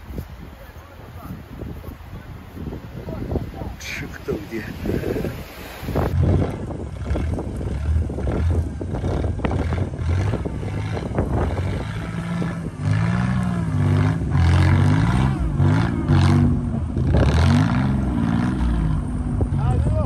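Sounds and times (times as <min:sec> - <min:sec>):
wind buffeting microphone: 0:00.0 - 0:20.0
car engine revving: 0:03.8 - 0:20.0.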